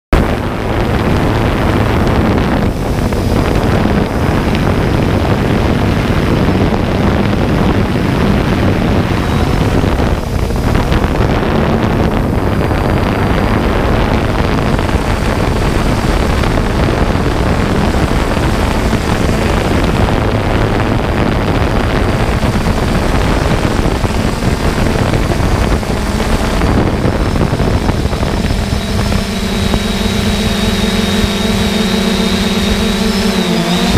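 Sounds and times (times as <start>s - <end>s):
drone motors and propellers whirring: 0.1s - 33.9s
wind on microphone: 0.1s - 33.9s.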